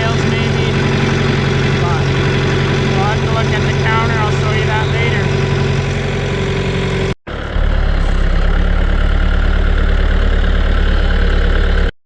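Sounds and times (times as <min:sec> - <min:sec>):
engine idling: 0:00.0 - 0:11.9
loud engine with low hum: 0:00.0 - 0:12.0.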